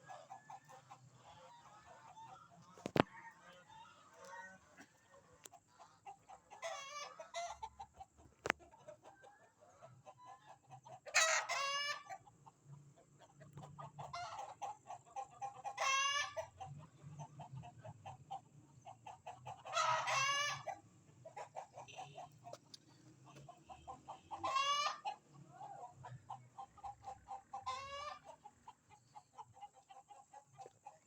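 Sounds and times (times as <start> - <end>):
hen clucking: 0.0 - 31.0.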